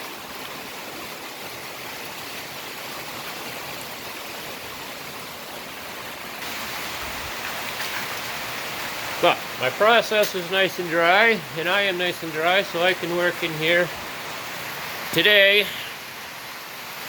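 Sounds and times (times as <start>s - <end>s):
rainwater runoff flowing: 0.0s - 17.0s.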